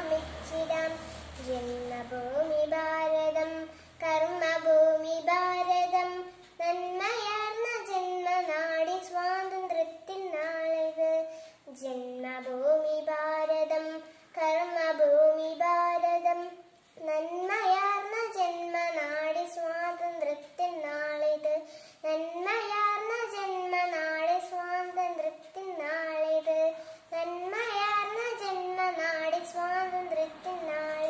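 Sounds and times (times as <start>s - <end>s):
girl singing unaccompanied: 0.0s - 31.0s.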